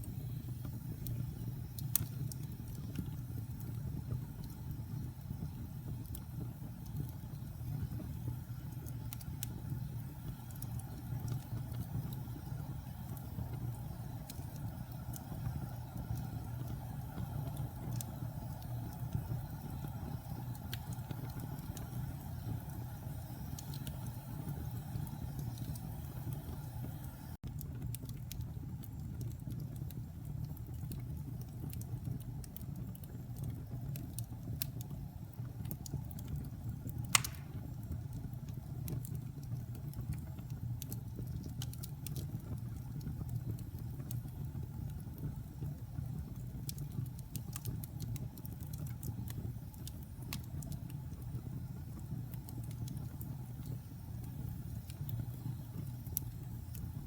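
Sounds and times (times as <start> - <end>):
small fire crackles: 0.0 - 57.0
wood fire rumbling: 0.0 - 57.0.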